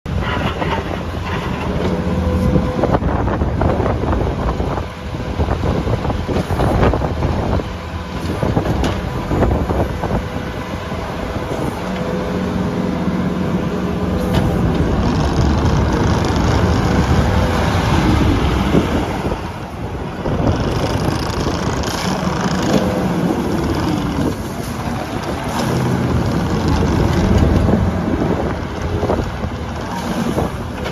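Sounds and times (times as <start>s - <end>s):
diesel engine revving: 0.1s - 30.9s.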